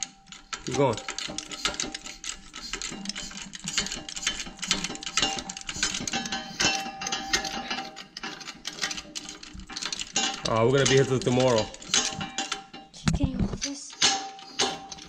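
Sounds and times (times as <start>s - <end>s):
hydraulic press clicking and rattling: 0.0s - 15.0s.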